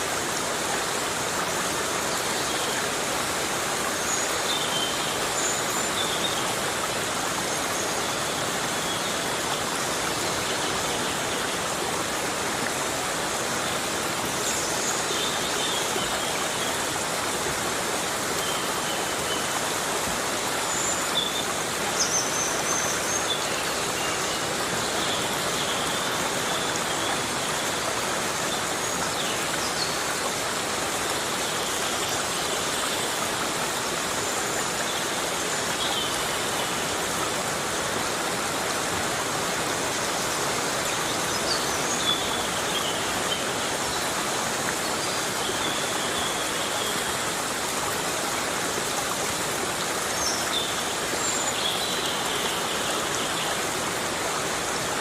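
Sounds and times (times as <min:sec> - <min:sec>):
heavy rain on foliage: 0:00.0 - 0:55.0.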